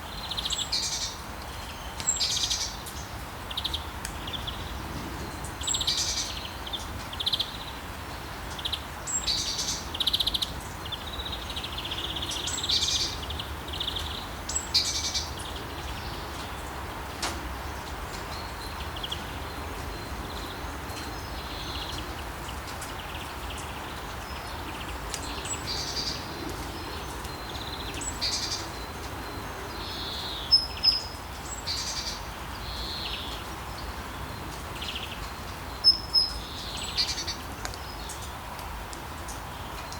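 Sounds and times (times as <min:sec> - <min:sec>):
songbirds chirping: 0:00.0 - 0:39.9
steady rain hissing: 0:00.0 - 0:39.9.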